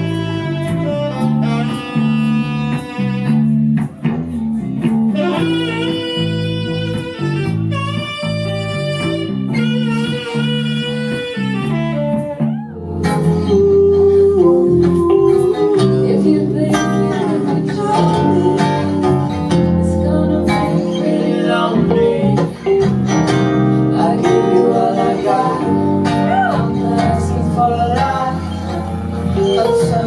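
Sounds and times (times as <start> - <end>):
live guitar music: 0.0 - 30.0
low bass line: 0.0 - 30.0.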